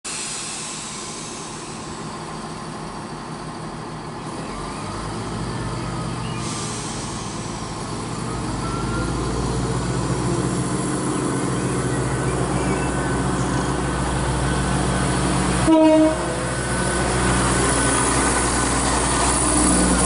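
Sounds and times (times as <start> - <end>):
diesel train engine rumble: 0.1 - 20.0.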